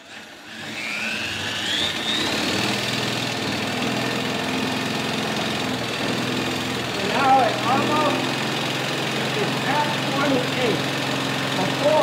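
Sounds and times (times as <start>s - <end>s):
cordless drill whine: 0.0s - 12.0s
engine pulsing: 0.3s - 12.0s.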